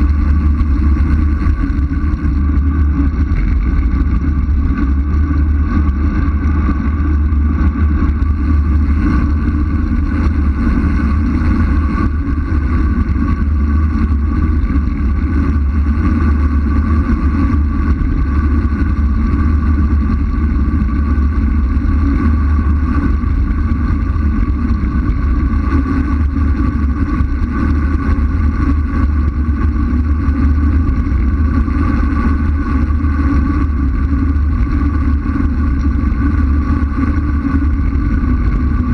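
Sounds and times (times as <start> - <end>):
wind rushing over camera: 0.0 - 38.9.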